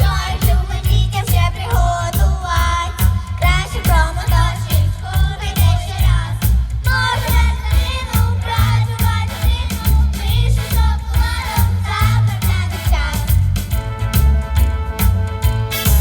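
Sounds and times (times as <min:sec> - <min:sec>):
young voices singing pop song: 0:00.0 - 0:13.8
backing track with steady beat: 0:00.0 - 0:16.0.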